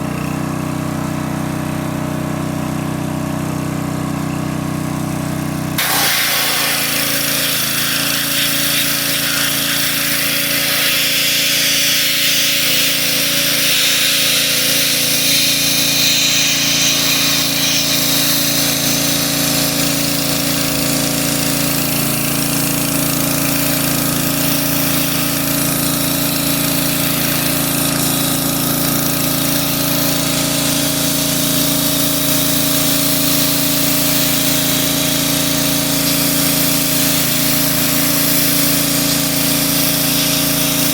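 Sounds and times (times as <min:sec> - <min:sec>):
power tool running: 0:00.0 - 0:40.9.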